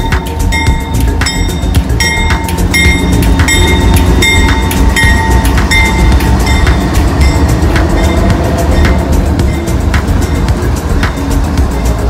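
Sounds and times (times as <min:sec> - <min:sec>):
crossing bell ringing: 0:00.0 - 0:12.0
diesel locomotives rumbling past: 0:00.0 - 0:12.0.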